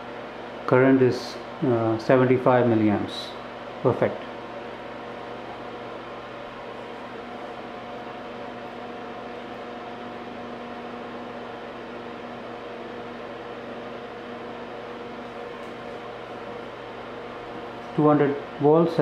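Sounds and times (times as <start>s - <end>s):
electrical hum with held tones: 0.0s - 19.0s.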